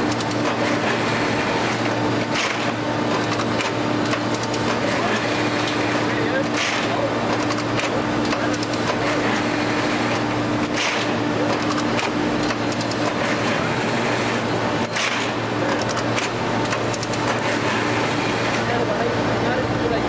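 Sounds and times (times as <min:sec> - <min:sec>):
machine hisses and clatters: 0:00.0 - 0:19.2
hydraulic unit hum: 0:00.0 - 0:20.0.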